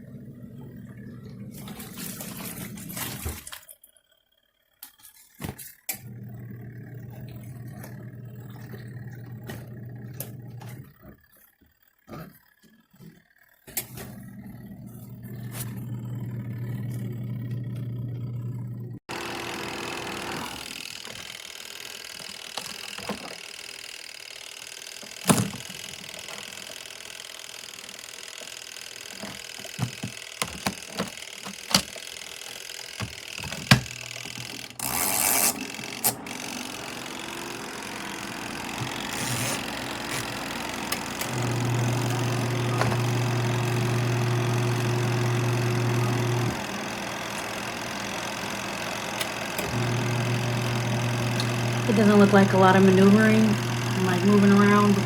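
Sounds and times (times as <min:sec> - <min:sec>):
washing machine motor humming: 0:00.0 - 0:03.7, 0:05.9 - 0:55.0.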